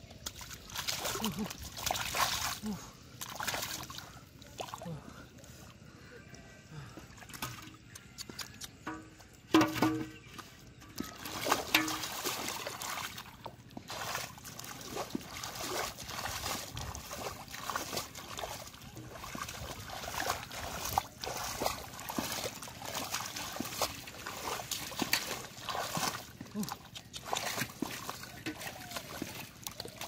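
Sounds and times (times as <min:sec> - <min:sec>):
water sloshing and splashing: 0:00.0 - 0:05.8, 0:07.1 - 0:07.9, 0:08.8 - 0:30.0
squelching in wet mud: 0:00.0 - 0:30.0.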